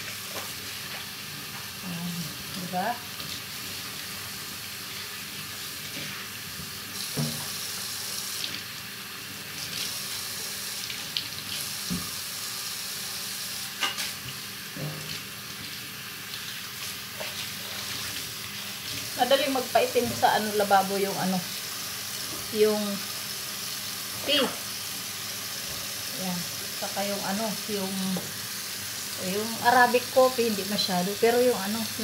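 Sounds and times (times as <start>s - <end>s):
tap water running into sink: 0.0s - 32.0s.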